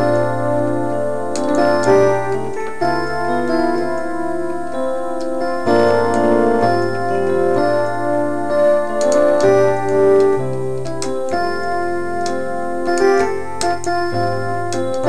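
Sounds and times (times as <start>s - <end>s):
electronic keyboard gospel chords: 0.0s - 15.0s
keyboard bass line: 0.0s - 15.0s.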